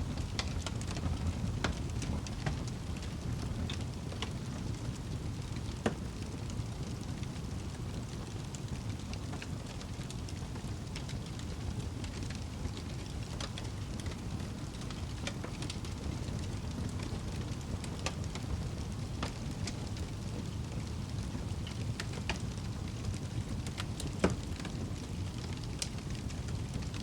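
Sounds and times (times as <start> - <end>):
fire crackling and popping: 0.0 - 27.0
fire flames rumbling: 0.0 - 27.0.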